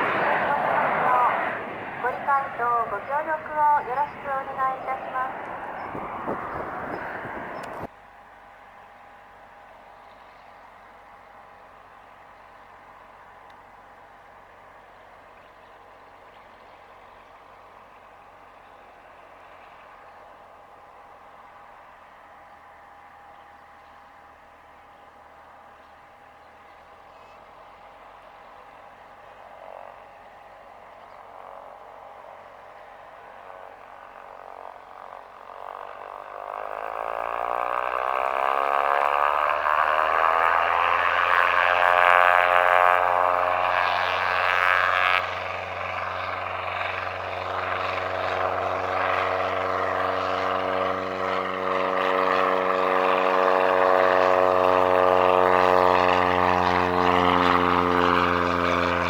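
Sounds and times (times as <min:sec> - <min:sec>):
propeller airplane engine drone: 0:00.0 - 0:59.0.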